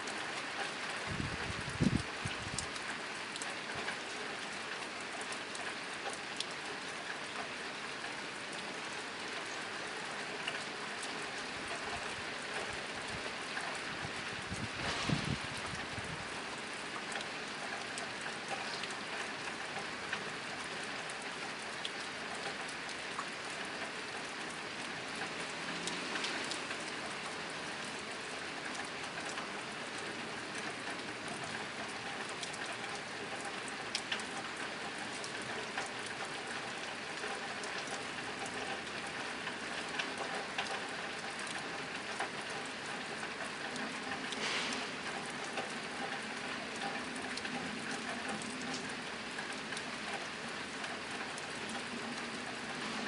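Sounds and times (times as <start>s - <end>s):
rain drumming on a tin roof: 0.0s - 53.0s.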